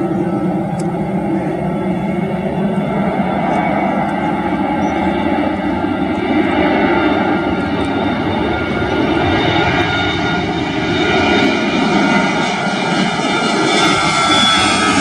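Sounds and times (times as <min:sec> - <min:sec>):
jet engines roaring and whining: 0:00.0 - 0:15.0.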